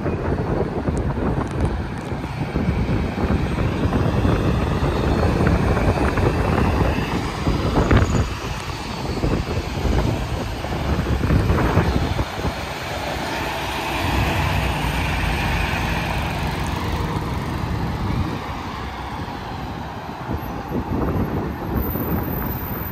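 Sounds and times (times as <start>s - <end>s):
highway traffic passing: 0.0s - 22.9s
wind buffeting microphone: 0.0s - 22.9s.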